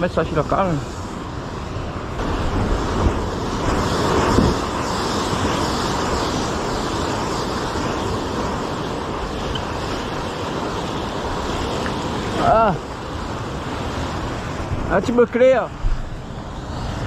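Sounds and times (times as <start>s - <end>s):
sea surf washing on shore: 0.0s - 17.0s
wind buffeting microphone: 0.0s - 17.0s.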